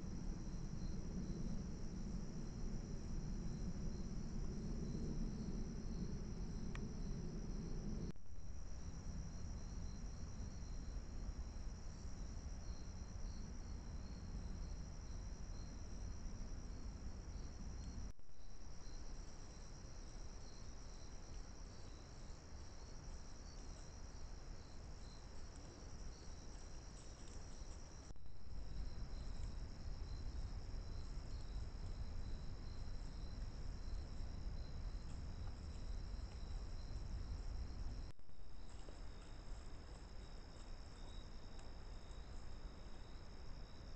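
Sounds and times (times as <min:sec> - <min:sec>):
crickets trilling: 0:00.0 - 0:43.9
insect quick chirps: 0:00.1 - 0:43.9.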